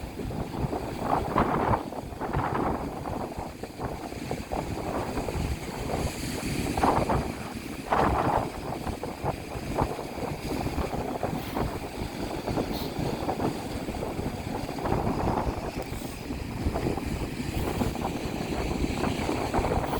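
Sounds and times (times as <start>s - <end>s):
sea waves breaking: 0.0s - 19.9s
wind buffeting microphone: 0.0s - 19.9s.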